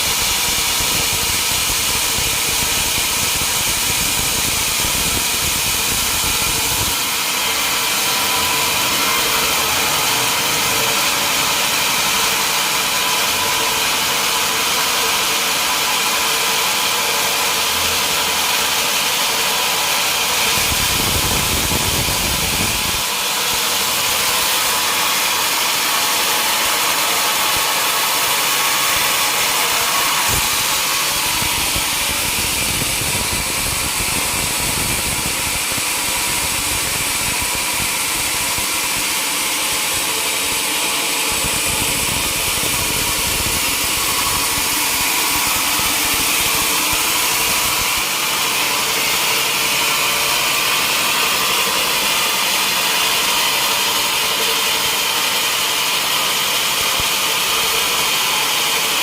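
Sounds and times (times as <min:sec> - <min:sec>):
saw cutting wood: 0:00.0 - 0:59.0.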